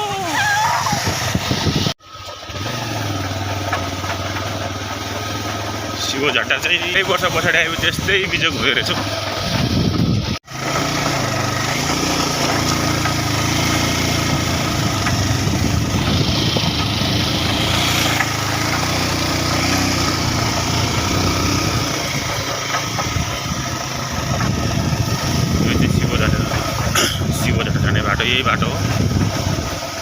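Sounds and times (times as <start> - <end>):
vehicle engine under load: 0.0 - 30.0.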